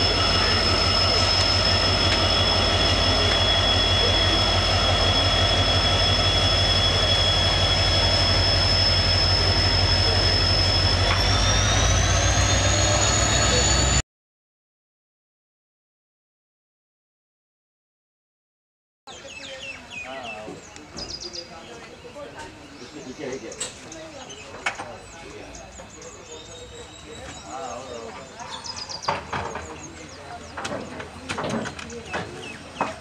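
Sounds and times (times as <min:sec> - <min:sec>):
diesel locomotive running: 0:00.0 - 0:14.0, 0:19.1 - 0:33.0.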